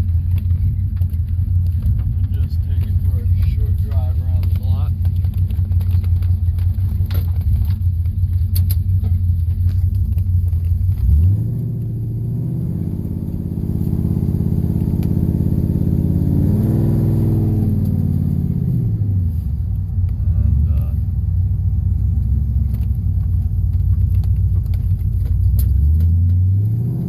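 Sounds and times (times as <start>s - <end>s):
car engine rumbling and accelerating: 0.0s - 27.0s.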